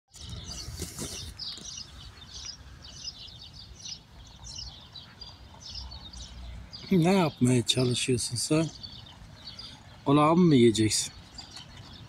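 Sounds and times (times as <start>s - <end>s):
songbirds chirping: 0.1s - 12.0s.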